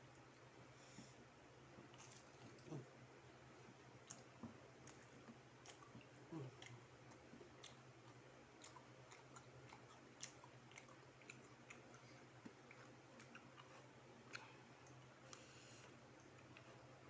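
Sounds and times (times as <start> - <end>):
chewing crispy fried chicken: 1.7 - 17.0.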